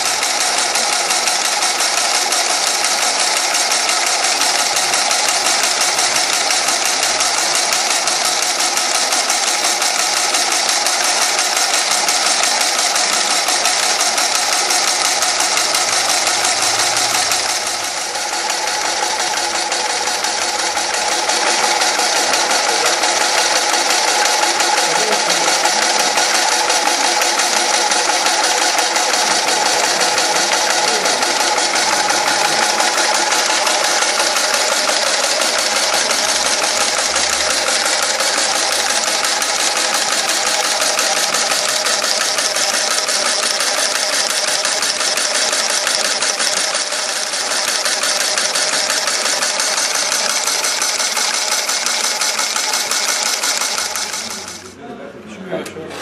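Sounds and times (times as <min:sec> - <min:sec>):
rapid mechanical clatter: 0:00.0 - 0:54.8.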